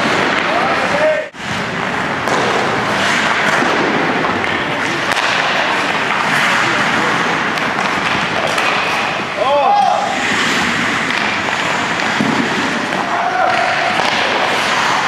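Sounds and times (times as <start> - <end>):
hockey sticks and puck clicking: 0.0 - 15.0
skate blades scraping ice: 0.0 - 15.0.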